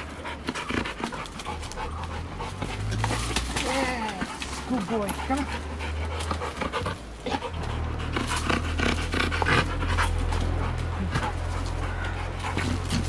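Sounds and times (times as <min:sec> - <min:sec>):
dog panting hard: 0:00.0 - 0:13.0
steady low rumble: 0:00.0 - 0:13.0.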